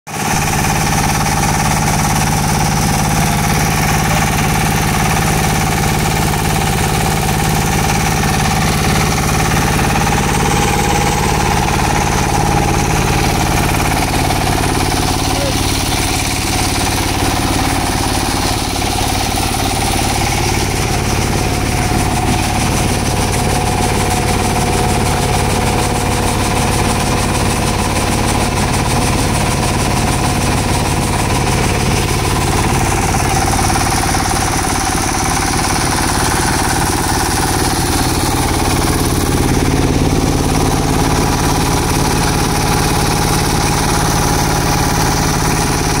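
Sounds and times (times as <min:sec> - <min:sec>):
concrete paver hum and buzz: 0:00.2 - 0:46.0.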